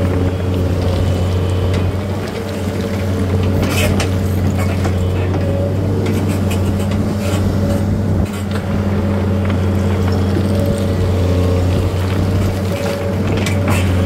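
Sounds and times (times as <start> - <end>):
machine engine humming: 0.0 - 14.0.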